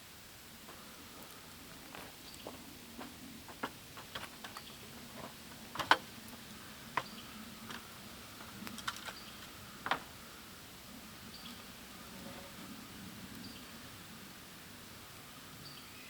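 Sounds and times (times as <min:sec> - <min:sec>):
low steady background noise: 0:00.0 - 0:16.0.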